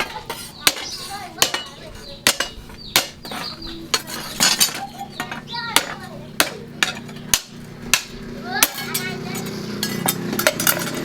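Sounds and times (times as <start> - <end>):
hammer striking steel on anvil: 0.0 - 11.0.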